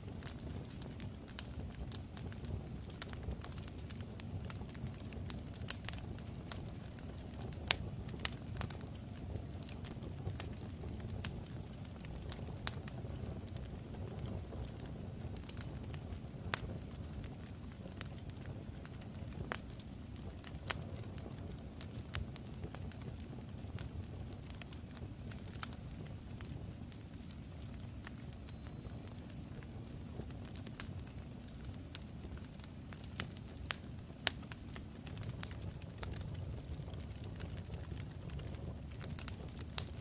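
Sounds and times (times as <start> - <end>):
fire crackling: 0.0 - 40.0.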